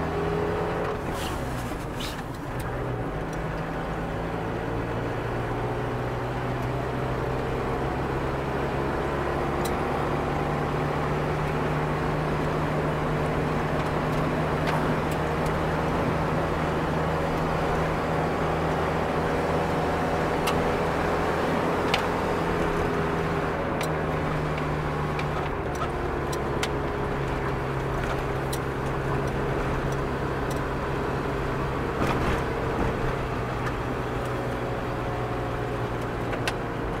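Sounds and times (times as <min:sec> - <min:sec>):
vehicle engine hum: 0:00.0 - 0:37.0.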